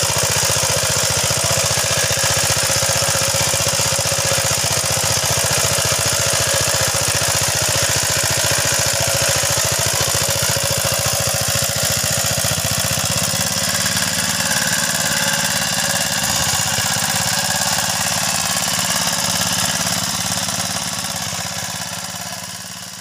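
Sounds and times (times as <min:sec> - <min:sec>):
small engine pulsing: 0:00.0 - 0:23.0.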